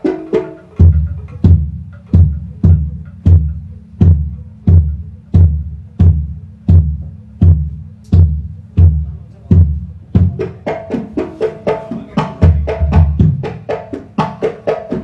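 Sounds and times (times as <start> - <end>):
amplified bass drum booms: 0.8 - 14.4.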